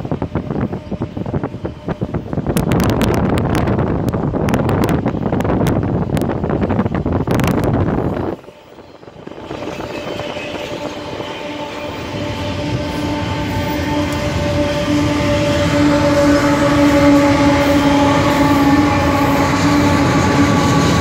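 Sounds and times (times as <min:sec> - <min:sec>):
train approaching: 0:00.0 - 0:21.0
wind buffeting microphone: 0:00.0 - 0:21.0.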